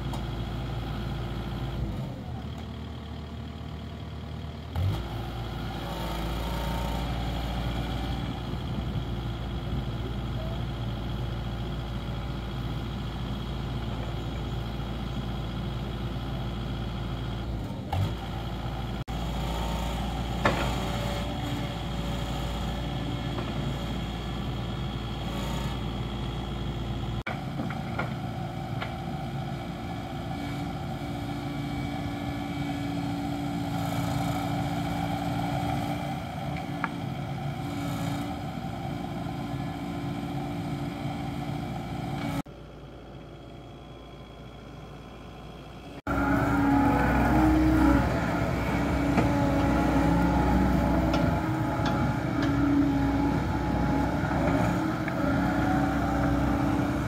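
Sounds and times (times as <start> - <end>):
excavator diesel engine under load: 0.0 - 57.0
hydraulics working: 7.0 - 57.0.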